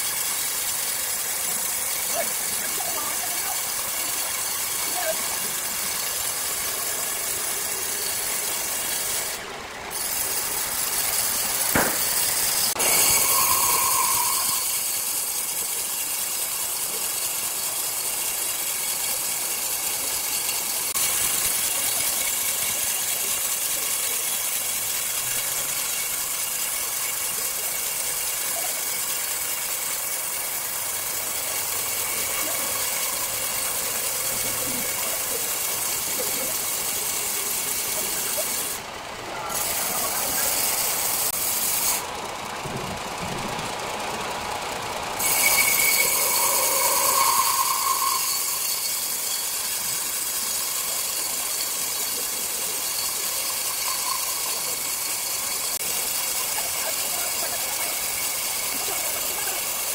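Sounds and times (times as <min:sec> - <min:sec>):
circular saw running: 0:00.0 - 0:59.9.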